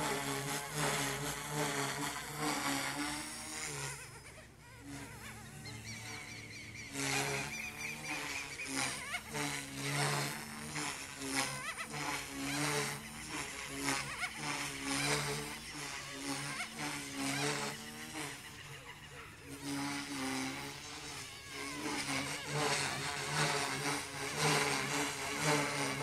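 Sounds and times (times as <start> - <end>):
rc helicopter motor and rotors: 0.0 - 26.0.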